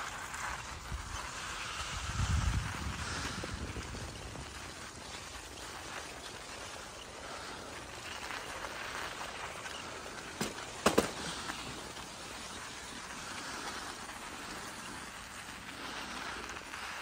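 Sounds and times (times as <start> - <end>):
bicycle tyres crunching on snow: 0.0 - 17.0.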